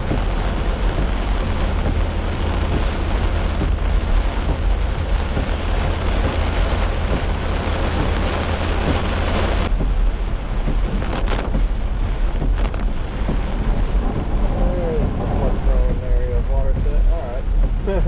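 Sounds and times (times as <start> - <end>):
car rumbling on wet road: 0.0 - 18.0
heavy rain on car roof: 0.0 - 18.0.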